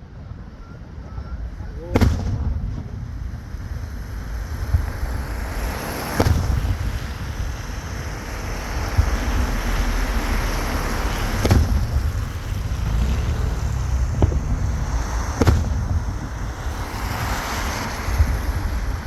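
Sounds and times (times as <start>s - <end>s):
fireworks bangs: 0.0s - 19.0s
wind noise on microphone: 0.0s - 19.0s.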